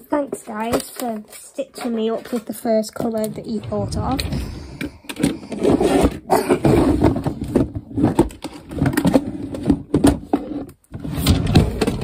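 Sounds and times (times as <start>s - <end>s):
plastic containers clattering: 0.1s - 12.0s.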